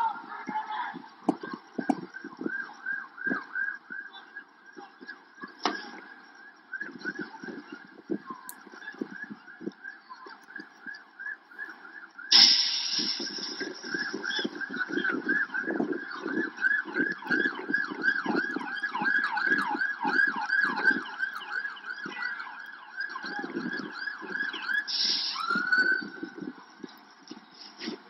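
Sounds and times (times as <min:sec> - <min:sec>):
police siren yelp: 0:00.0 - 0:28.0.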